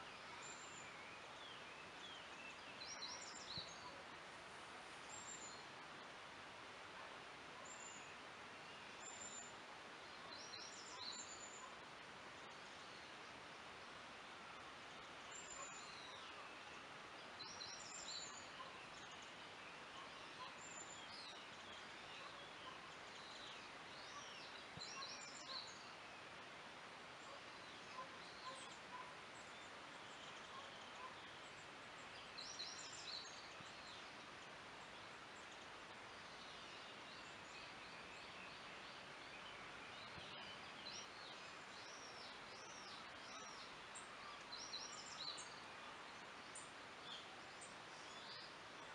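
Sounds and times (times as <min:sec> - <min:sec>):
faint steady hiss: 0:00.0 - 0:48.9
songbirds chirping: 0:00.0 - 0:48.9.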